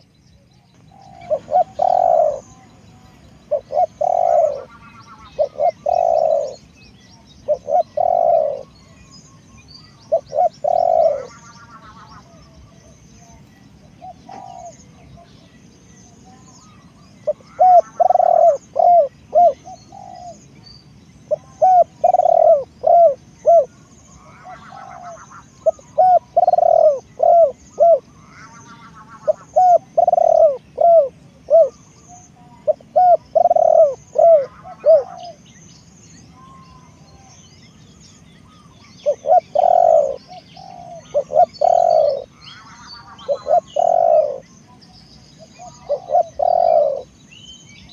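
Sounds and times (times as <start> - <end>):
faint small birds chirping: 0.0 - 47.9
doves cooing: 0.7 - 6.8, 7.4 - 15.5, 16.3 - 20.5, 21.2 - 35.6, 38.4 - 44.7, 45.4 - 47.3.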